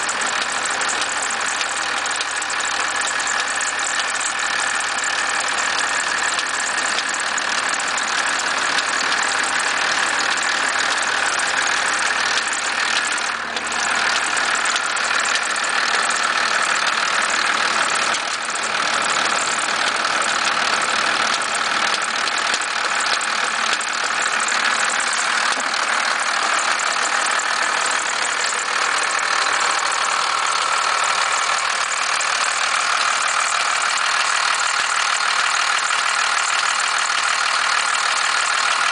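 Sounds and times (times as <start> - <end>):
diesel engine idling: 0.0 - 38.9
engine knock and rattle: 0.0 - 38.9.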